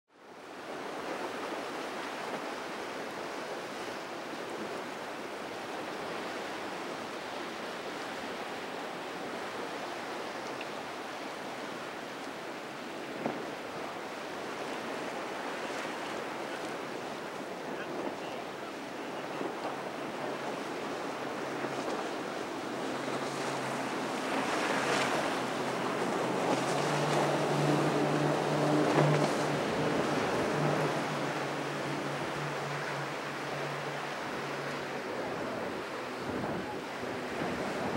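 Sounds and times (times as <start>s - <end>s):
ocean waves and surf: 0.1s - 37.9s
wind: 0.1s - 37.9s
hull spray and water rushing: 0.2s - 37.9s
outboard engines droning: 0.2s - 37.9s.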